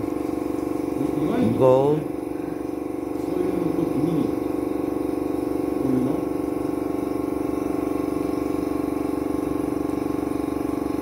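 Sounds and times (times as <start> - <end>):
handheld vacuum cleaner humming: 0.0 - 11.0.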